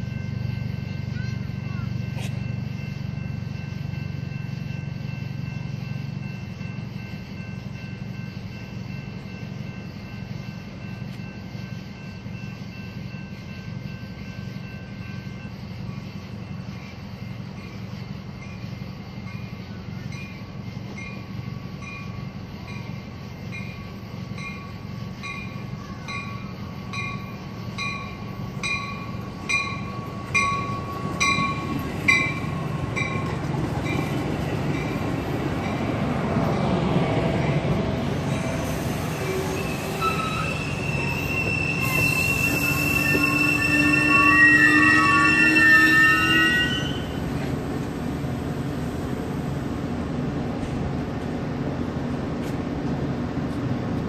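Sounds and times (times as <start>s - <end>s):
train bell ringing: 0.0s - 47.5s
diesel train engine rumble: 0.0s - 54.0s
train cars rolling past: 0.0s - 54.0s.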